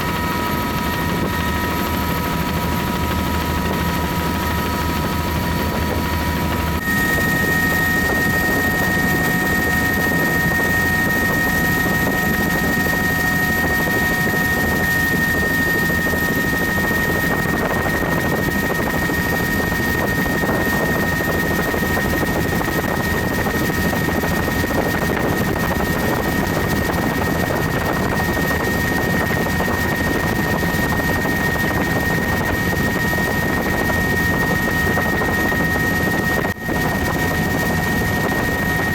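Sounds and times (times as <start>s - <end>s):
helicopter rotor and turbine: 0.0s - 38.9s
high whine: 0.0s - 38.9s.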